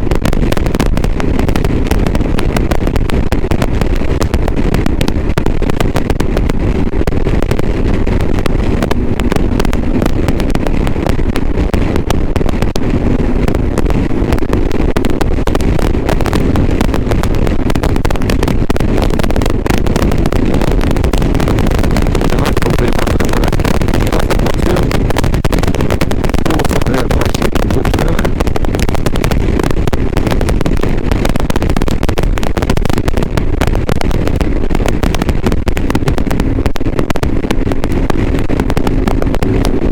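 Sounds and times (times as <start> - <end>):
harsh crackling distortion: 0.0 - 39.9
motorcycle engine: 0.0 - 39.9
wind noise: 0.0 - 39.9.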